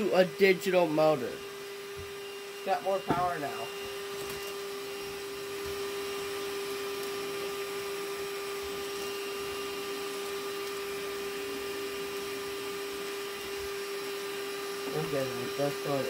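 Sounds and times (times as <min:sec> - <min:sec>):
vacuum motor whine: 0:00.0 - 0:16.0.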